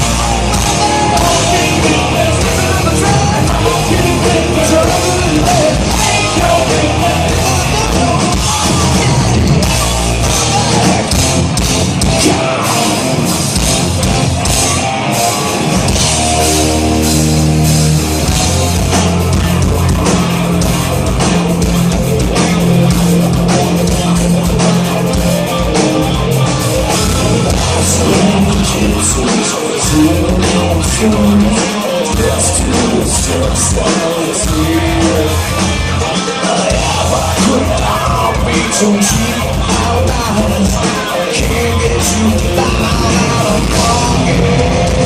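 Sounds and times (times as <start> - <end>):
hard rock band playing: 0.0 - 45.0.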